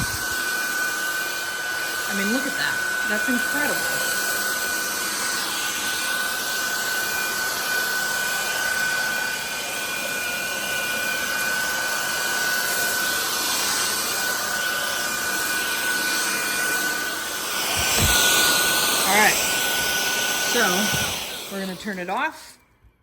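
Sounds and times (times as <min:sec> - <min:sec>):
stick vacuum cleaner running: 0:00.0 - 0:22.6.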